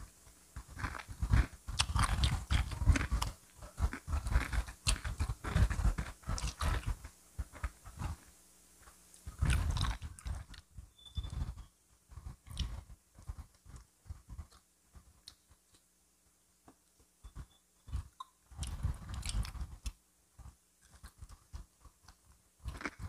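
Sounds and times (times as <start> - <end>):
crunching and chewing fried chicken: 0.6 - 15.9, 17.9 - 23.0.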